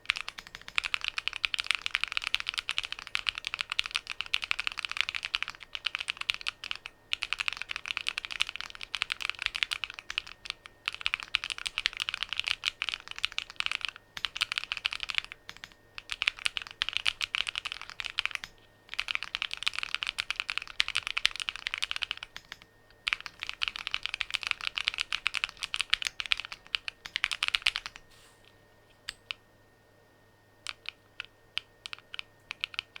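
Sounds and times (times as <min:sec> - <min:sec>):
mechanical keyboard typing: 0:00.0 - 0:28.0, 0:29.0 - 0:29.4, 0:30.6 - 0:33.0.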